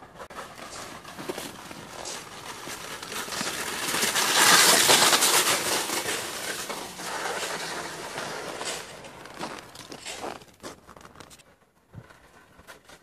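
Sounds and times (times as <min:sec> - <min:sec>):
sled runners scraping over ice: 0:00.0 - 0:13.0.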